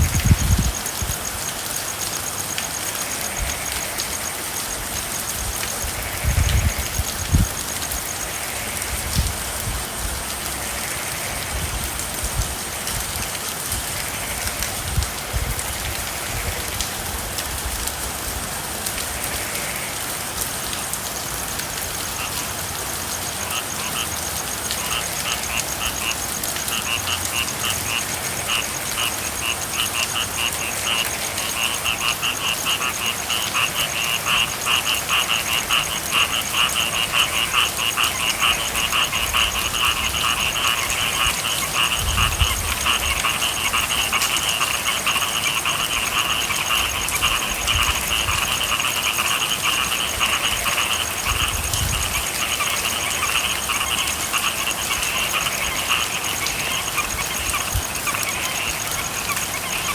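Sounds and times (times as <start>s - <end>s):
frogs calling in trills: 0.0s - 18.0s, 18.8s - 59.9s
rain: 0.0s - 59.9s.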